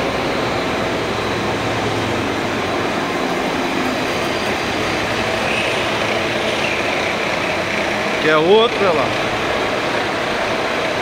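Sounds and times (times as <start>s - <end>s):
coolant spraying: 0.0s - 11.0s
lathe machine running: 0.0s - 11.0s.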